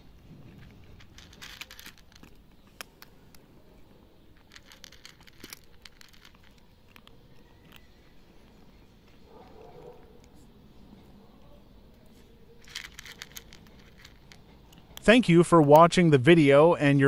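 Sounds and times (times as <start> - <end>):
cats crunching dry kibble: 0.0 - 11.2, 11.8 - 15.9.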